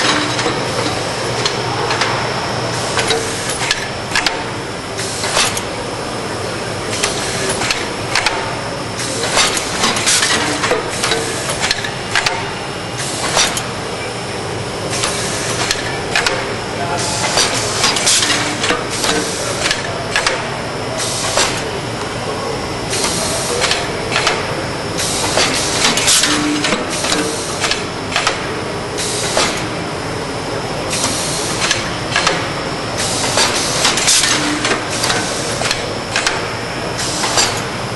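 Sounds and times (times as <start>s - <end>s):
bagging machine clatter: 0.0s - 5.8s, 6.8s - 13.9s, 14.8s - 21.8s, 22.9s - 29.8s, 30.5s - 37.9s.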